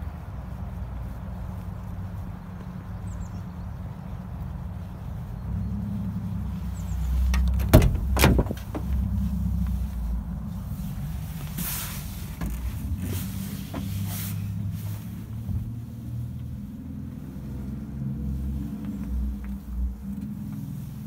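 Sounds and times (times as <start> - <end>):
rustles and scrapes of climbing: 0.0 - 21.0.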